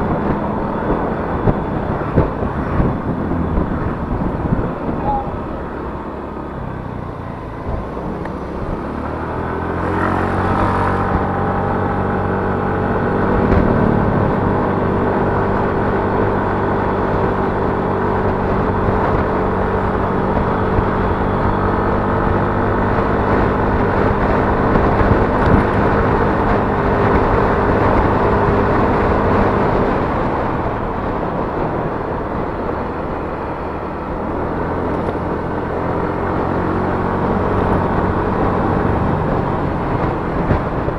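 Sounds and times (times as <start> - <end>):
scooter engine running: 0.0 - 40.9
wind noise on microphone: 0.0 - 40.9.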